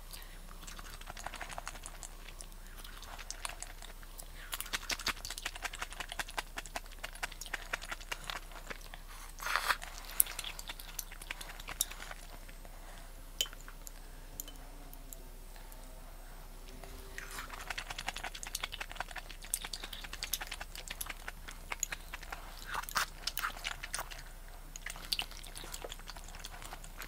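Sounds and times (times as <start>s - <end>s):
chewing and crunching food: 0.0s - 15.8s, 16.7s - 27.0s.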